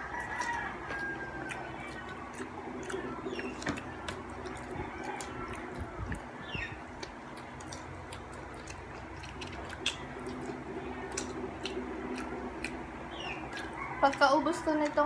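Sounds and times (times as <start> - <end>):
person chewing bread: 0.0 - 15.0
steady low hum: 0.0 - 15.0.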